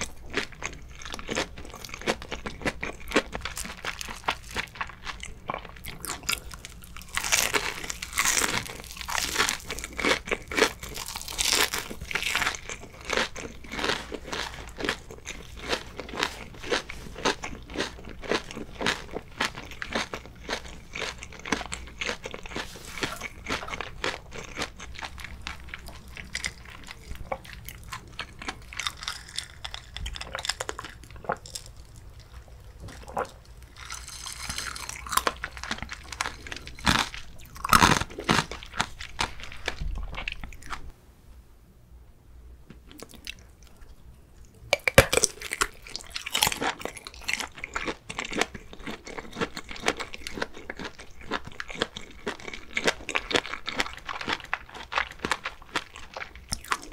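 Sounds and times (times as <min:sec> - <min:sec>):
chewing and crunching: 0:00.0 - 0:40.9, 0:42.7 - 0:56.9.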